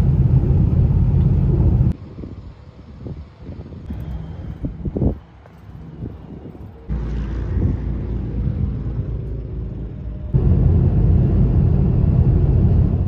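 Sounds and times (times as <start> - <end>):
car driving on highway: 0.0 - 13.0.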